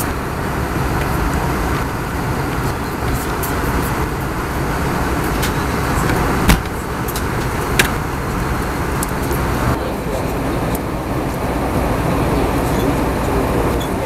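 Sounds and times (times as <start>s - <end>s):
aircraft cabin rumble and hiss: 0.0s - 14.0s.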